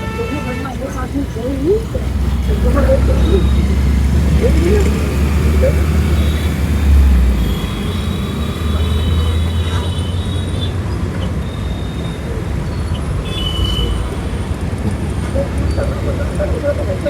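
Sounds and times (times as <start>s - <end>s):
road and traffic noise: 0.0s - 17.0s.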